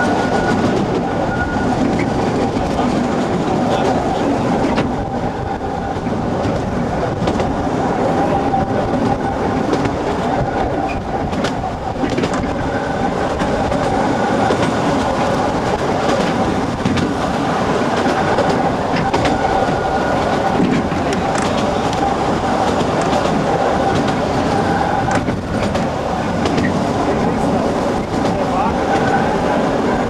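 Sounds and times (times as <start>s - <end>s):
train wheels clattering on track: 0.0s - 30.0s.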